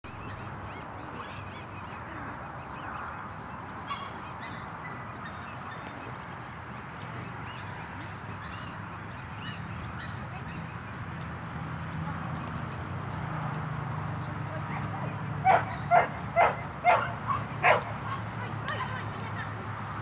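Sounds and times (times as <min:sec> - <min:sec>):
birds calling: 0:00.1 - 0:20.0.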